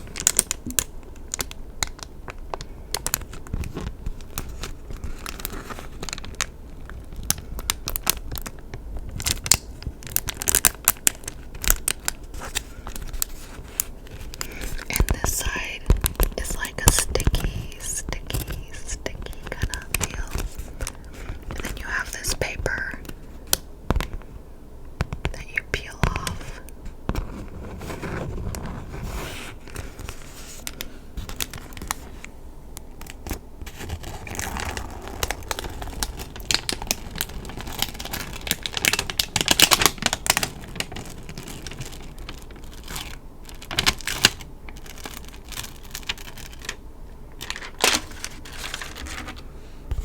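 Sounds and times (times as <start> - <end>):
crinkling and crackling: 0.0 - 50.0.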